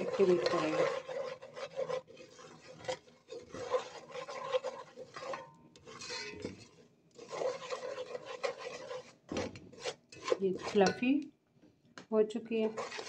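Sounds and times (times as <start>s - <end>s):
wooden spoon scraping metal pot: 0.0s - 11.3s, 12.5s - 13.0s.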